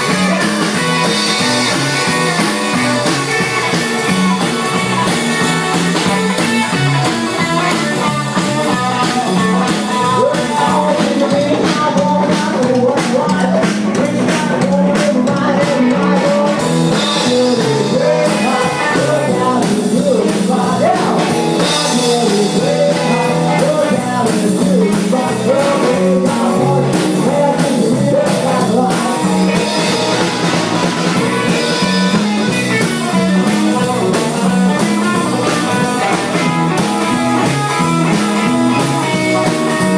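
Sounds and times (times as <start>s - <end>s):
drum kit beat: 0.0s - 39.9s
electric guitar: 0.0s - 39.9s
person singing: 0.0s - 39.9s.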